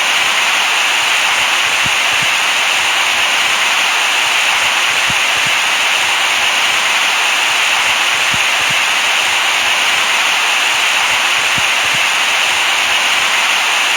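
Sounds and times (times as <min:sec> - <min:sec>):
white-noise hiss: 0:00.0 - 0:13.9.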